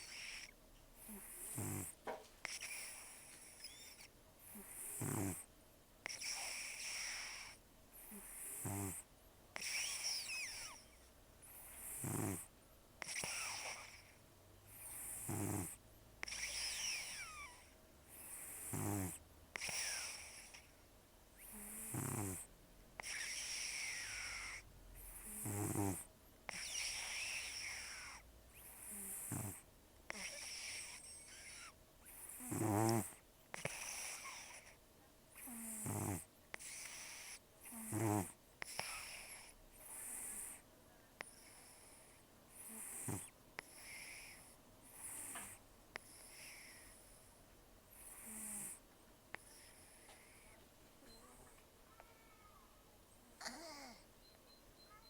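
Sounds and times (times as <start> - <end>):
cat snoring: 0.0 - 20.8, 21.4 - 34.8, 35.4 - 40.6, 41.2 - 47.3, 47.9 - 50.6, 53.4 - 54.0.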